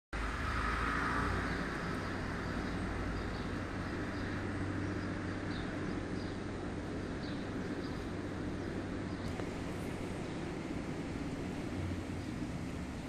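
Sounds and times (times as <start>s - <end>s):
low storm rumble: 0.2s - 13.0s.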